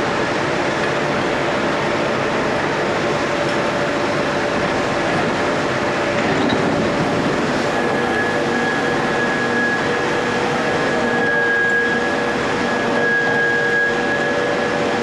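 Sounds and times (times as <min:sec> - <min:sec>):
rolling mill mechanical drone: 0:00.0 - 0:15.0
thin high whine: 0:00.0 - 0:15.0.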